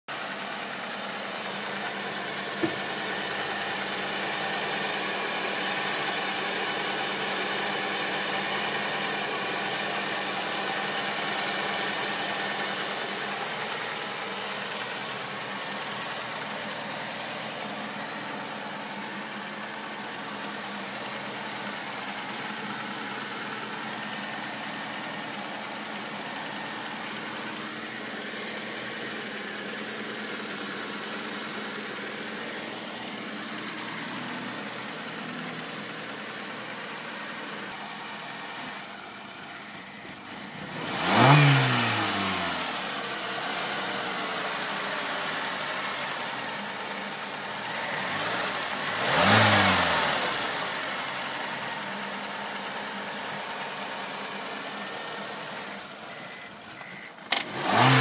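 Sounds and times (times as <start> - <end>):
car engine idling: 0.1 - 58.0.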